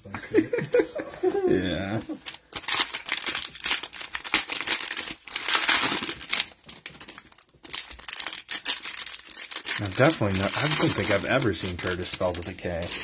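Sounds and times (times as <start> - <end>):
cellophane crinkling and tearing: 1.8 - 13.0.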